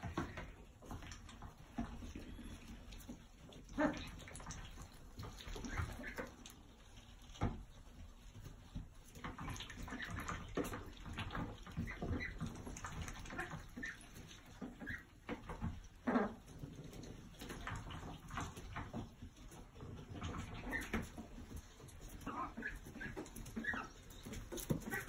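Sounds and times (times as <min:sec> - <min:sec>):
ducks calling softly: 0:00.0 - 0:25.0.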